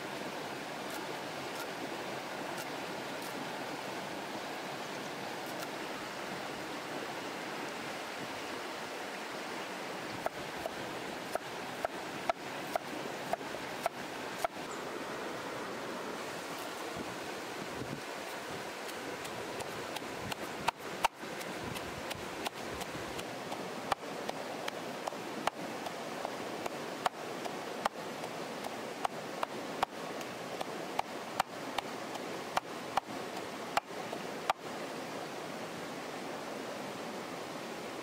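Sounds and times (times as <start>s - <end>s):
steady rushing like a stream: 0.0s - 38.0s.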